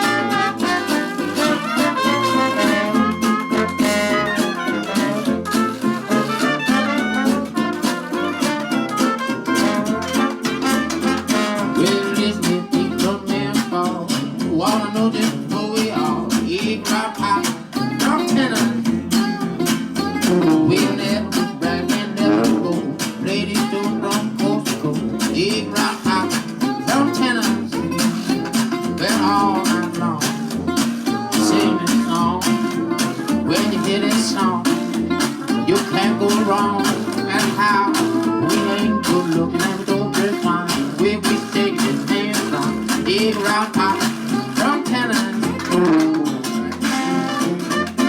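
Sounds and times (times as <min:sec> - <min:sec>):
jazz band playing live: 0:00.0 - 0:48.0.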